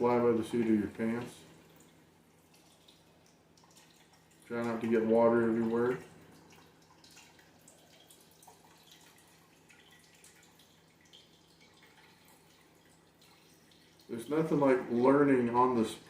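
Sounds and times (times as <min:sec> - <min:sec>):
faint water drips: 0:00.0 - 0:16.0.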